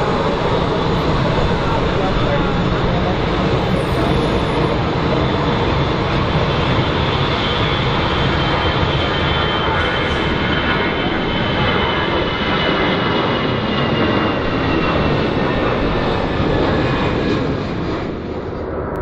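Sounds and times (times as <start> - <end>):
jet airliner engines whining: 0.0 - 19.0.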